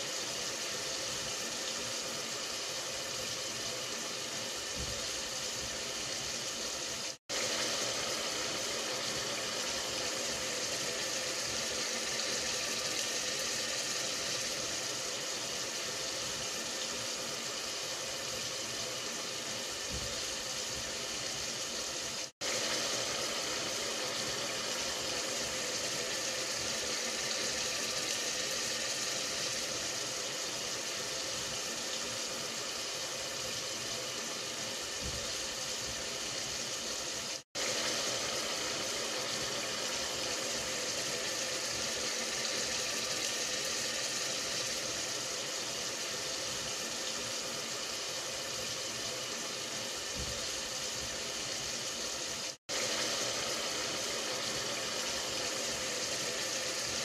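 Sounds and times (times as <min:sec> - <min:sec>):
steady hissing noise: 0:00.0 - 0:57.0.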